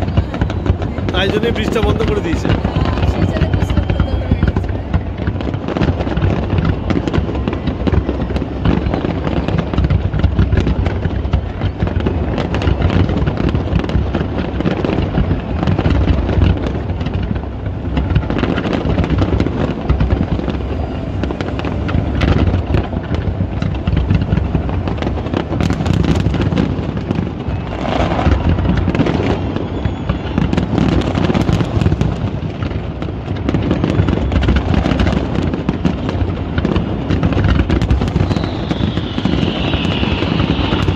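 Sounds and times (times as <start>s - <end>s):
fireworks booming and crackling: 0.0s - 40.9s.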